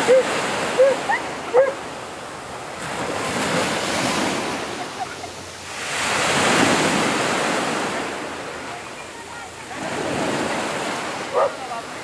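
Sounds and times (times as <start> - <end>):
sea surf breaking: 0.0 - 12.0.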